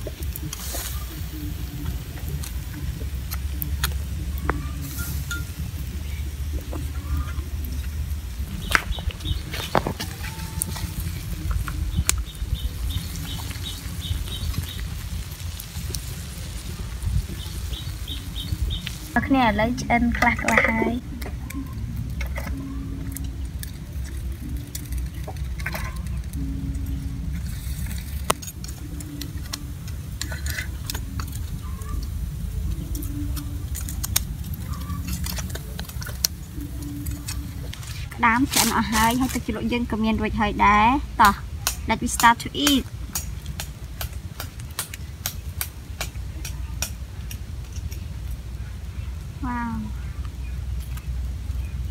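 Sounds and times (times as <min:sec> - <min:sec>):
food sizzling on grill: 0:00.0 - 0:51.8
crackling fire: 0:00.0 - 0:51.9
steady low rumble: 0:00.0 - 0:51.9.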